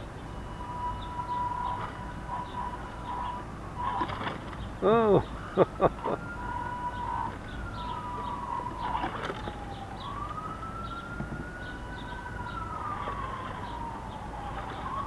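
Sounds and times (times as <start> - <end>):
distant siren wailing: 0.0 - 15.0.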